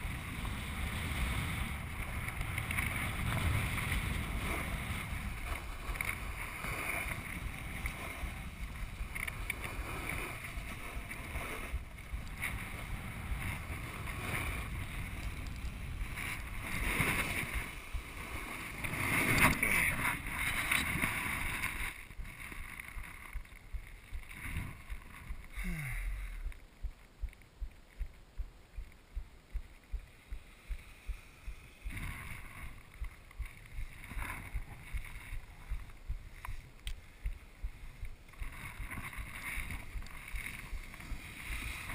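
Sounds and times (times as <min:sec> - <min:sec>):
snowboard scraping over snow: 0:00.0 - 0:25.5, 0:29.8 - 0:41.9
wind on microphone: 0:00.0 - 0:41.9
soft regular pulses: 0:00.1 - 0:41.9.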